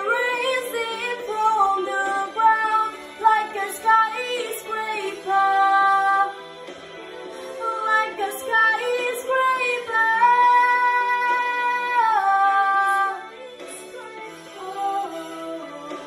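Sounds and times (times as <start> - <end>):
girl singing a pop ballad: 0.0 - 16.0.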